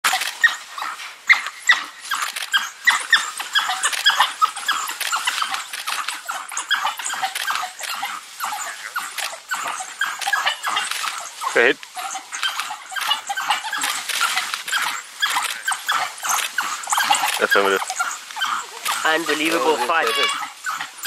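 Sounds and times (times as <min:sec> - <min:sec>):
wild dogs twittering calls: 0:00.1 - 0:21.0.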